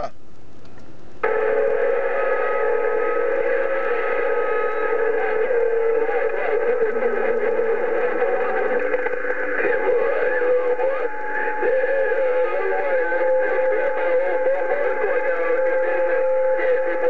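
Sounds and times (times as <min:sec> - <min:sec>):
faint garbled radio transmissions: 0:00.0 - 0:00.2, 0:01.2 - 0:17.0
radio static and hiss: 0:01.2 - 0:17.0
wavering whistling radio tones: 0:01.2 - 0:17.0.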